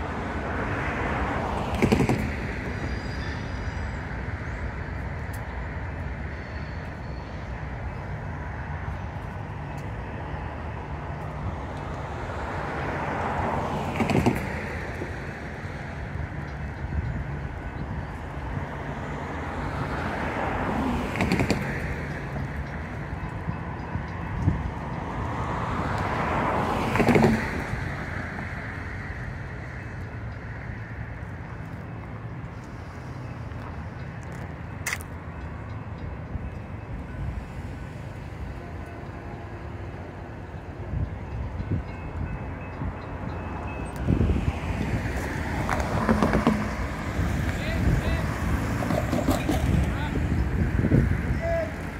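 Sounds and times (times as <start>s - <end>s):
freight train rumbling: 0.0s - 51.9s.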